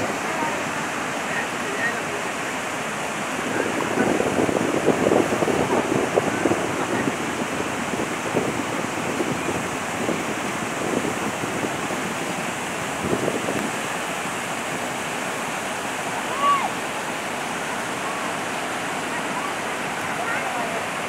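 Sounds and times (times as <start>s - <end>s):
water rushing down spillway: 0.0s - 21.0s
wind buffeting microphone: 0.0s - 21.0s.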